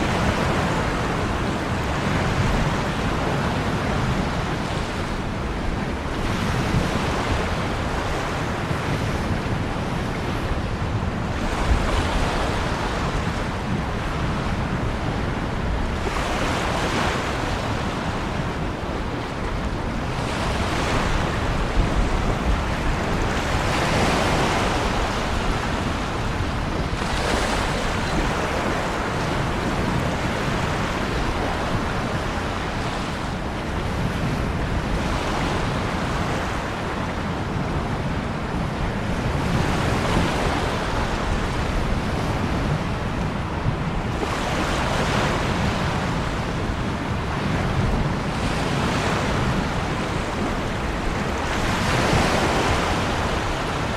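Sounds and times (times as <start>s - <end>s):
ocean waves breaking: 0.0s - 53.9s.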